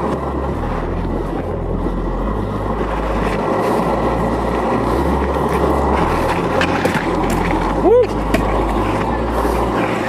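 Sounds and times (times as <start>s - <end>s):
longboard wheels rolling on paving: 0.0s - 10.0s.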